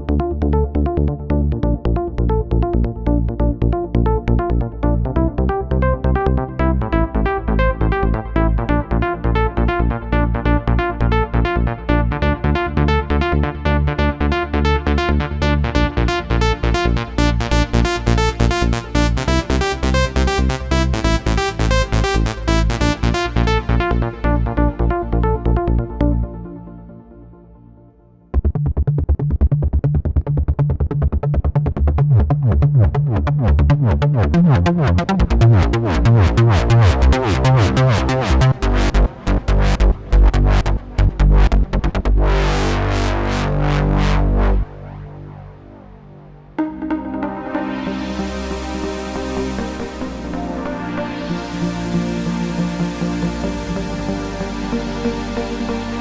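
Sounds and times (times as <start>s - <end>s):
sustained synth bass line: 0.0s - 56.0s.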